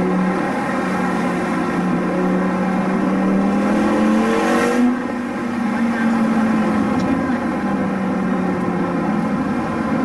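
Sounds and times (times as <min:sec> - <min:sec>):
car engine heard from inside cabin: 0:00.0 - 0:10.0.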